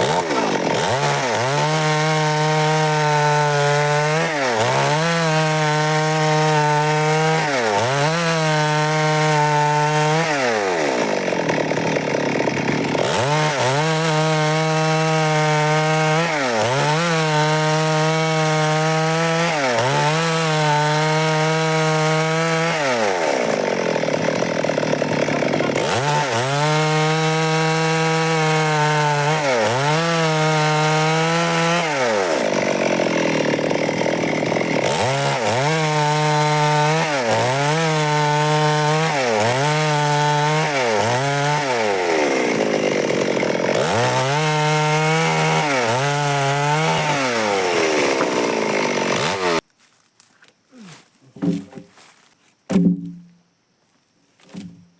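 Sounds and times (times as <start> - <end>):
chainsaw cutting wood: 0.0 - 49.7, 50.8 - 53.3, 54.4 - 54.9.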